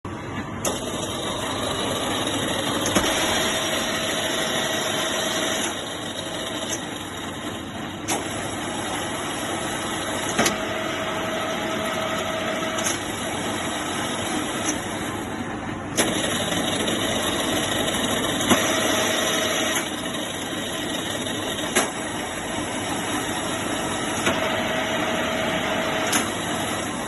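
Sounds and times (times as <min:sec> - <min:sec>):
milling machine humming: 0:00.1 - 0:27.0.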